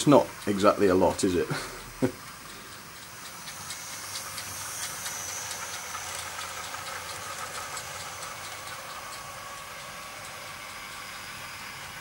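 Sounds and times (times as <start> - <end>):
electric motor whine: 0.0 - 12.0
wheels clicking over rail joints: 0.0 - 12.0.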